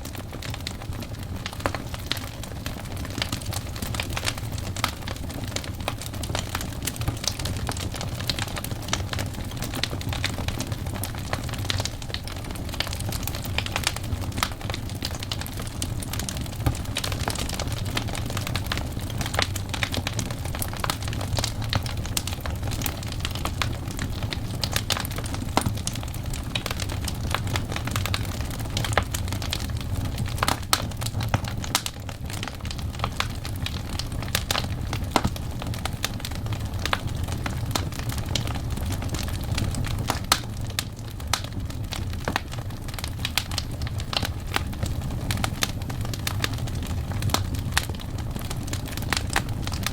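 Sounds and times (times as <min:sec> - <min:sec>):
burning logs crackling and popping: 0:00.0 - 0:49.9
low rumble of fire: 0:00.0 - 0:49.9.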